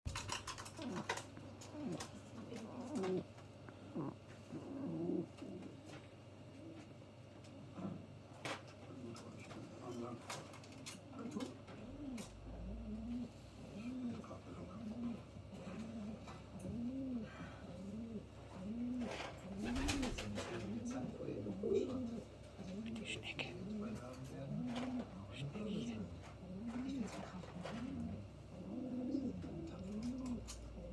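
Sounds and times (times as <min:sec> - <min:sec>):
pigeon cooing: 0:00.1 - 0:30.9.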